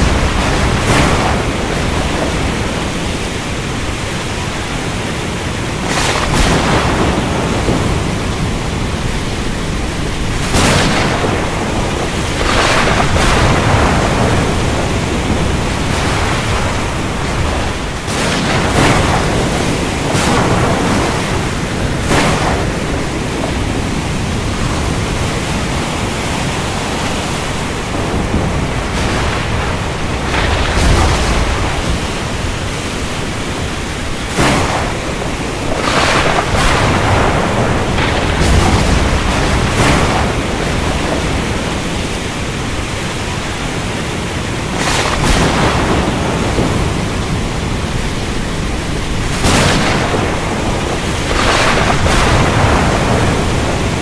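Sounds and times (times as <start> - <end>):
thunder crashes: 0.0 - 43.0, 44.6 - 54.0
deep thunder rumble: 0.0 - 54.0
heavy rain: 0.0 - 54.0.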